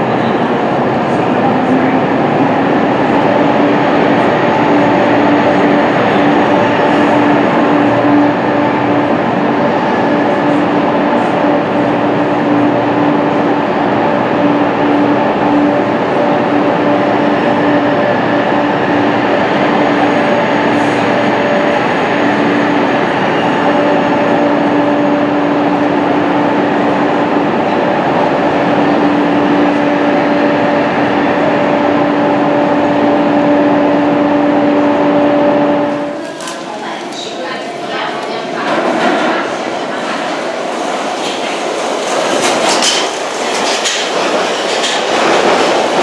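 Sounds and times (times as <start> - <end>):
train humming: 0.0 - 46.0.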